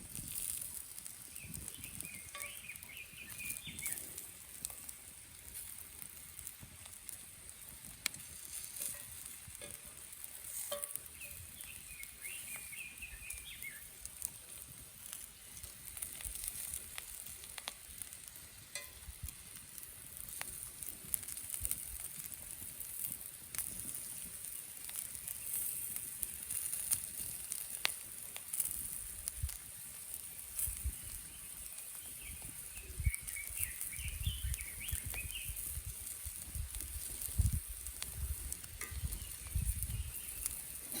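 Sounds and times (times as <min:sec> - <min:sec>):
meat sizzling in a grill pan: 0:00.0 - 0:41.0.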